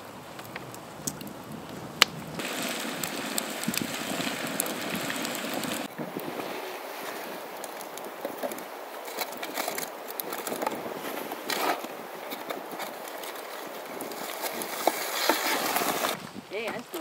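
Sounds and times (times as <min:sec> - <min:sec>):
campfire crackling: 0:00.0 - 0:17.0
stick raking coals: 0:00.0 - 0:17.0.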